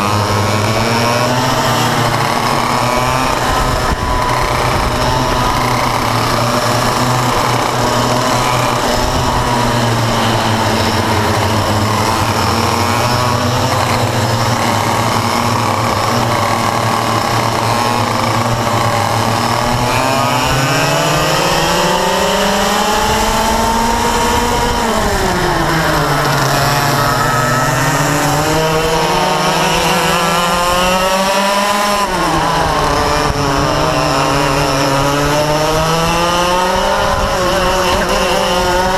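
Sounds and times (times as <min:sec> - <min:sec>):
kart engines racing: 0:00.0 - 0:38.9.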